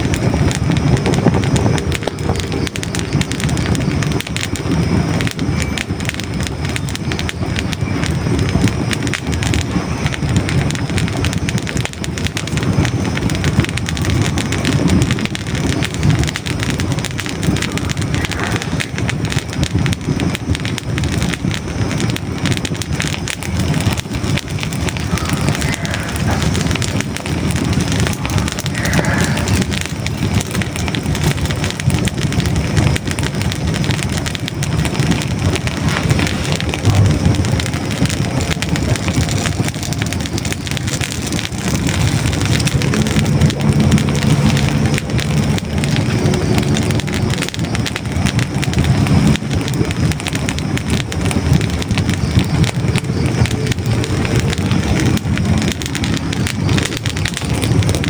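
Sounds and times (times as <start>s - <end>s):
logs crackling in fireplace: 0.0s - 58.0s.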